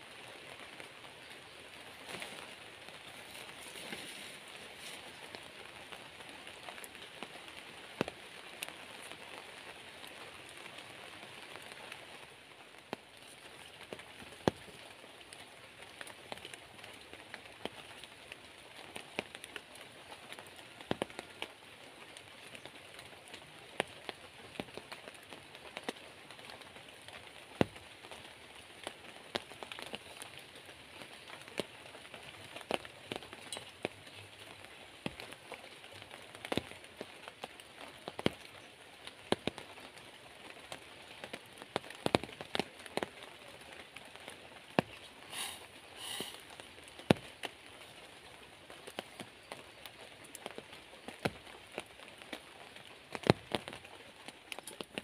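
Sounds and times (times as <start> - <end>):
raindrops ticking: 0.0 - 55.0
steady rain: 0.0 - 55.0.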